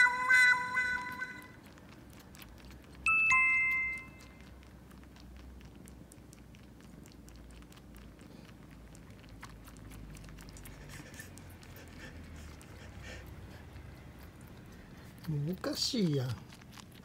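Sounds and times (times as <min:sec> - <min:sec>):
cat licking while grooming: 0:00.0 - 0:17.0
cats purring: 0:01.2 - 0:17.0.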